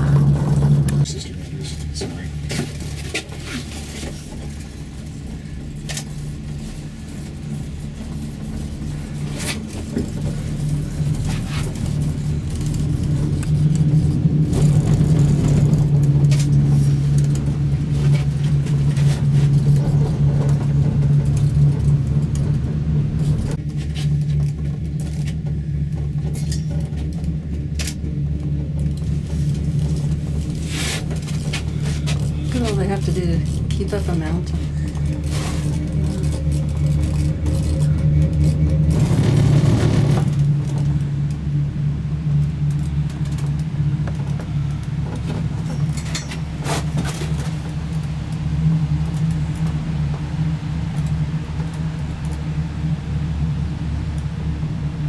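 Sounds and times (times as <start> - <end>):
gondola cabin hum and rumble: 0.0 - 55.0.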